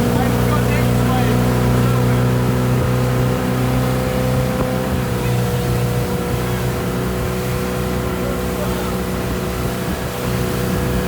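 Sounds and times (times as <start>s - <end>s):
motorboat engine running: 0.0s - 11.0s
water rushing: 0.0s - 11.0s
wind: 0.0s - 11.0s.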